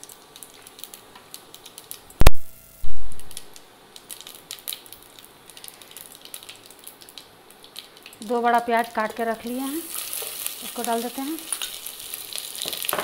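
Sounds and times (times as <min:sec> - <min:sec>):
seeds crackling in hot oil: 0:00.0 - 0:13.0.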